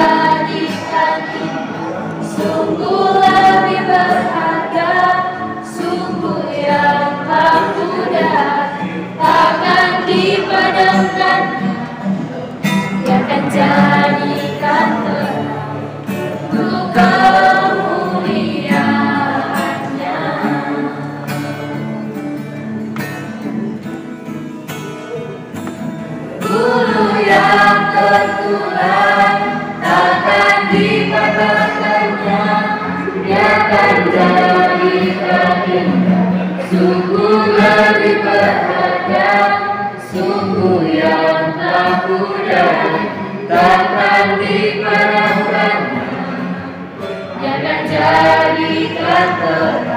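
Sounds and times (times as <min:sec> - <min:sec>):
youth choir singing a hymn: 0:00.0 - 0:22.4, 0:26.2 - 0:49.9.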